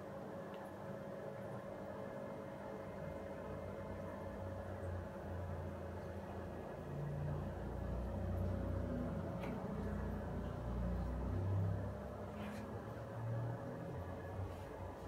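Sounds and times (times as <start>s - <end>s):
aquarium equipment humming: 0.0s - 15.0s.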